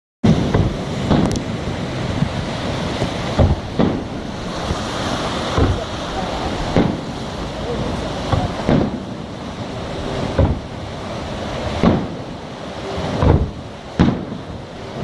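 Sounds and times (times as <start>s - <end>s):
fireworks booming: 0.2s - 15.0s
sea rumble: 0.2s - 15.0s
wind: 0.2s - 15.0s.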